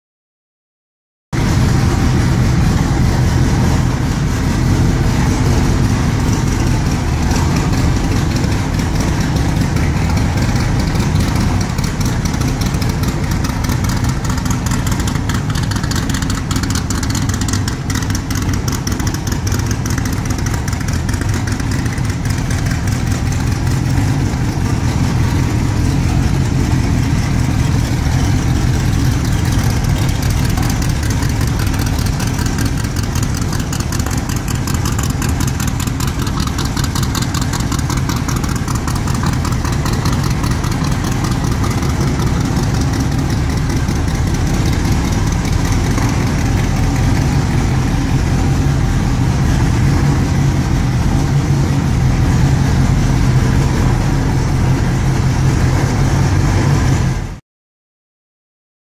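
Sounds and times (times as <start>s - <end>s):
car engine idling burble: 1.4s - 57.4s.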